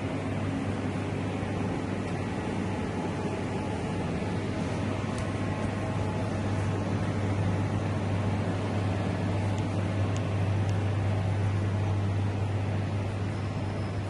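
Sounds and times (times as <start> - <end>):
compressor hum: 0.0 - 14.0
fan air rush: 0.0 - 14.0.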